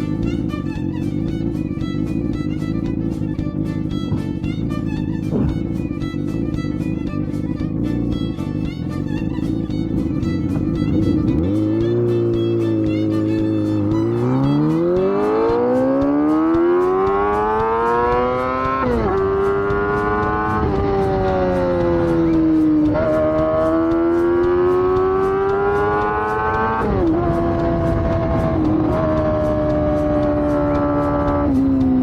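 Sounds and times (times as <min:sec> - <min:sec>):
engine accelerating through gears: 0:00.0 - 0:32.0.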